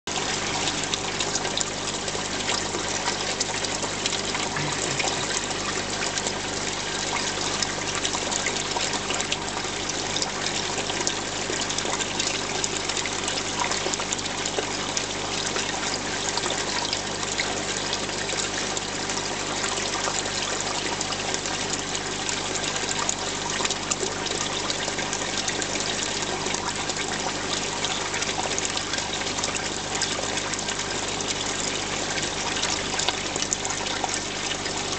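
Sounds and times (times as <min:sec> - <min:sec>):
pump humming: 0:00.1 - 0:34.9
water trickling and splashing: 0:00.1 - 0:34.9.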